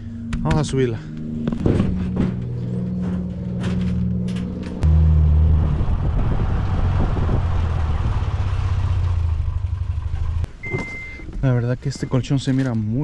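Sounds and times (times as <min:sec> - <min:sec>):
truck engine running: 0:00.0 - 0:10.5.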